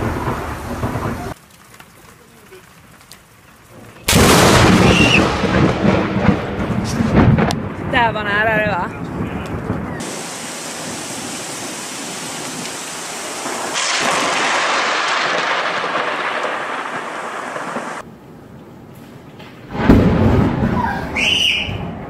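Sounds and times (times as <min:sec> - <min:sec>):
heavy rain pouring: 0:00.0 - 0:18.1.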